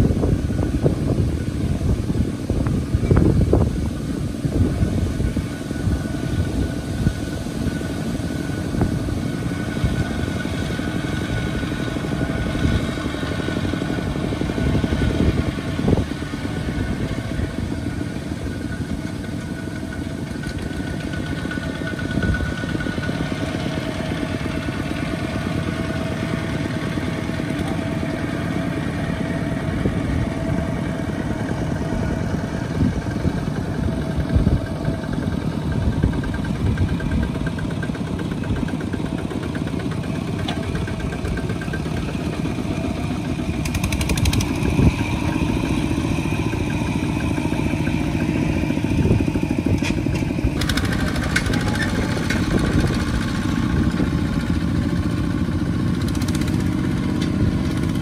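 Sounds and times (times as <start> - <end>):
diesel tractor engines running: 0.0 - 58.0.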